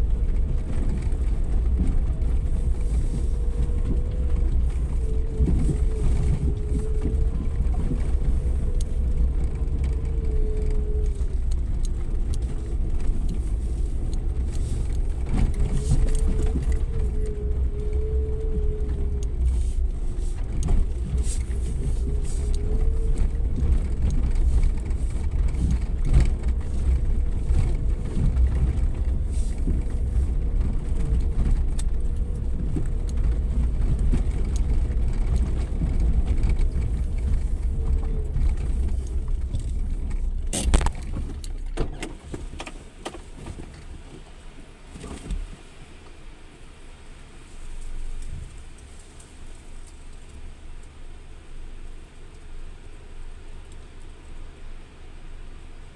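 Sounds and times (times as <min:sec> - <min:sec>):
car engine rumble and whine: 0:00.0 - 0:55.9.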